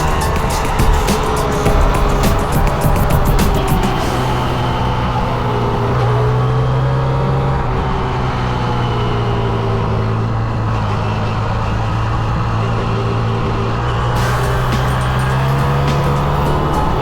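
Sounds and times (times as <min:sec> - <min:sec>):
motorcycle engine cruising: 0:00.0 - 0:17.0
other motorcycle engines: 0:00.0 - 0:17.0.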